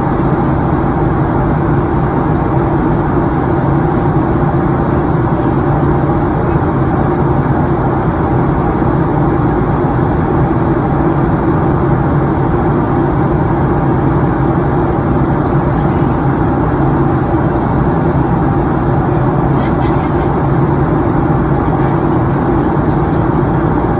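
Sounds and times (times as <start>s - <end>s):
jet engine hum: 0.0s - 23.9s.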